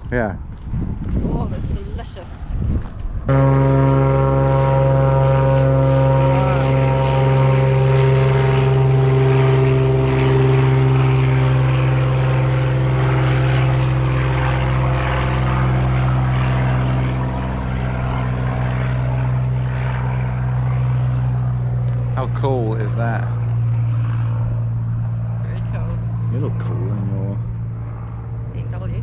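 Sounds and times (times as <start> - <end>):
engine droning: 3.2 - 29.0.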